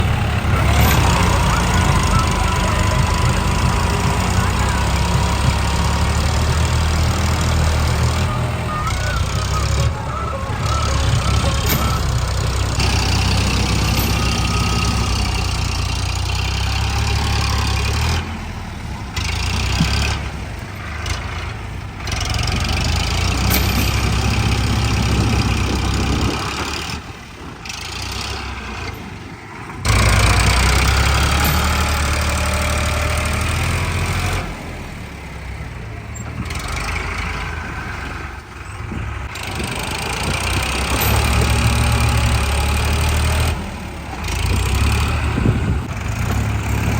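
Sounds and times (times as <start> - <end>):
tractor engines running hard: 0.0 - 46.9.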